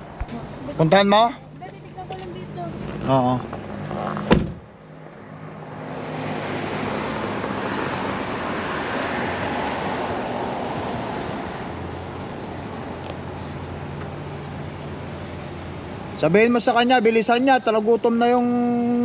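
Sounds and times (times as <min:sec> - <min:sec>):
car engine hum: 0:00.0 - 0:19.0
street traffic: 0:00.0 - 0:19.0.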